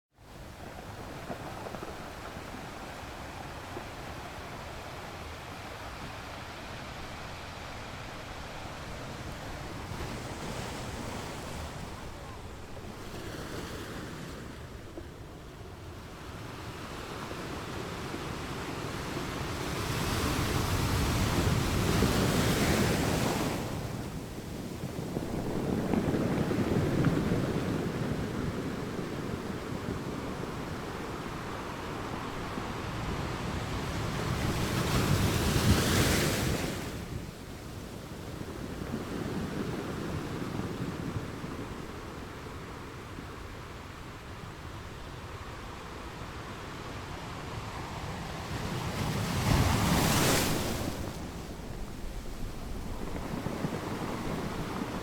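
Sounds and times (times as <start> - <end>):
waves breaking on shore: 0.2 - 55.0.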